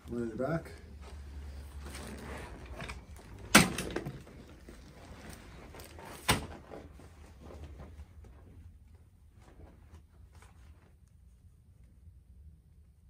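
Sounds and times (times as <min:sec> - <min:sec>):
soft rustling: 0:00.0 - 0:03.5, 0:04.1 - 0:12.0.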